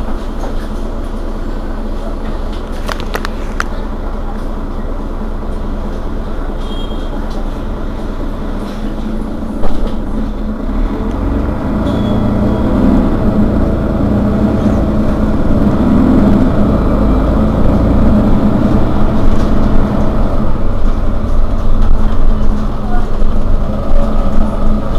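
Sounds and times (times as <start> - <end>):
bus engine running: 0.0 - 24.9.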